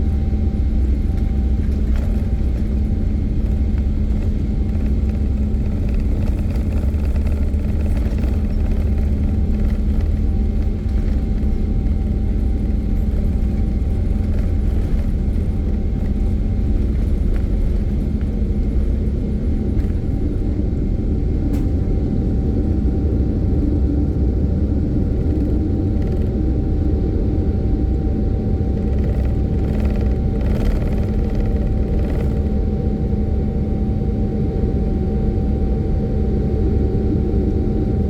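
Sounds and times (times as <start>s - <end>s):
jet engines at takeoff power: 0.0s - 38.0s.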